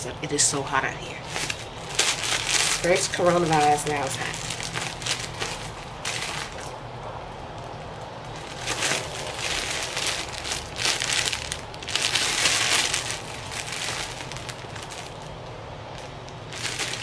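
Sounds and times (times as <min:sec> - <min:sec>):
plastic bag crinkling: 0:01.1 - 0:17.0.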